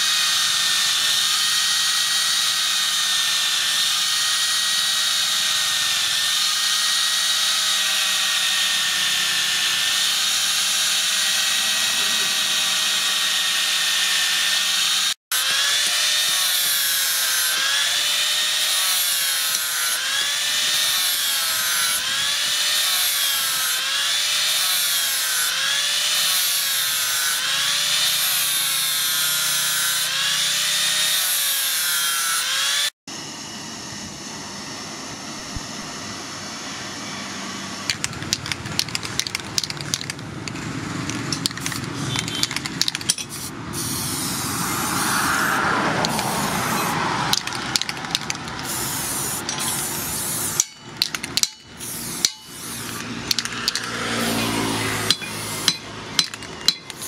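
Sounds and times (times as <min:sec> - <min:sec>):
angle grinder sanding steel: 0:00.0 - 0:33.0, 0:37.8 - 0:57.0.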